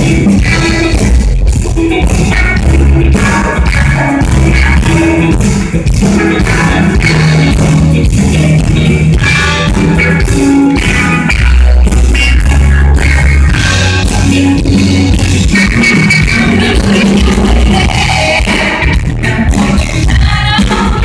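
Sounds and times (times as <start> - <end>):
distorted live rock band: 0.0 - 21.0.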